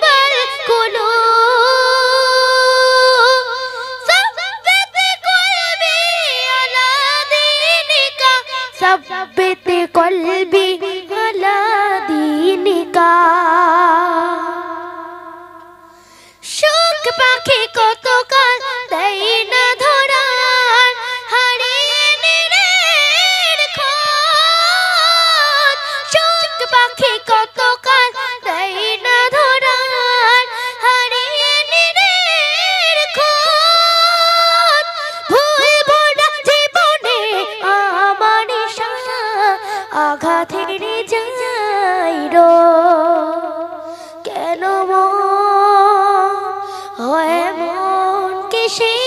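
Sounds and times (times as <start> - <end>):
boy singing into a microphone: 0.0 - 49.0.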